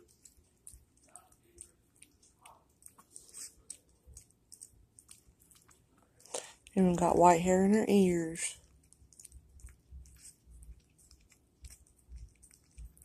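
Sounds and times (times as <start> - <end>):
dog licking with wet clicks: 0.0 - 7.1, 8.0 - 13.0.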